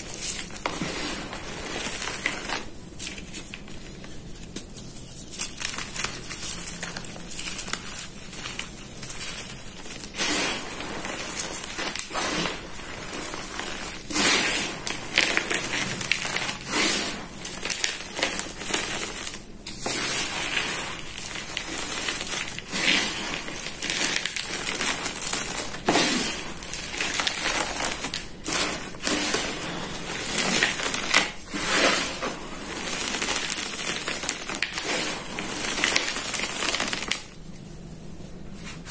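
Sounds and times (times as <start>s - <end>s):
chalk crushed and crumbled by hand: 0.0s - 38.9s.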